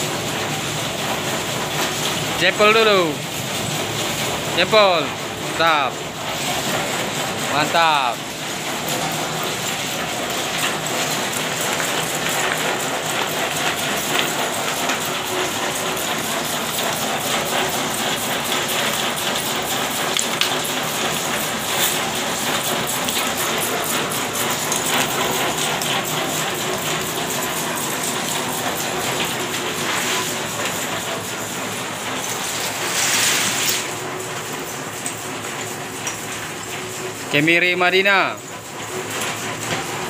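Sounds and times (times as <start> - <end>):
nut-cracking machine rattling: 0.0 - 40.0.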